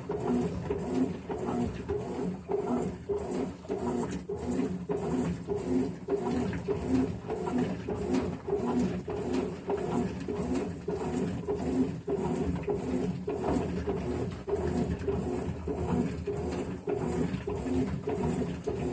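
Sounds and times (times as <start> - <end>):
washing machine agitating: 0.0 - 18.9.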